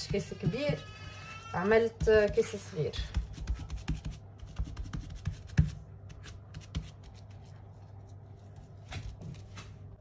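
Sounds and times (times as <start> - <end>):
hands rubbing and tapping batter: 0.0 - 1.0, 1.6 - 10.0.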